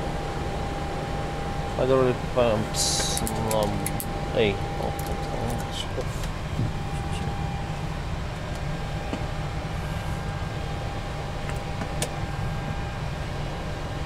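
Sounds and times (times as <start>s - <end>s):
air-conditioning and fan hum: 0.0s - 14.0s
thin steady whine: 0.0s - 14.0s.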